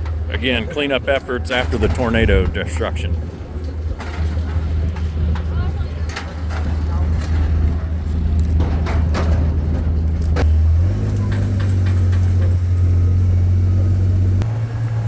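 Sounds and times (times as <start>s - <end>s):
knocks and rattles: 0.0s - 14.5s
vehicle engine running: 0.0s - 15.0s.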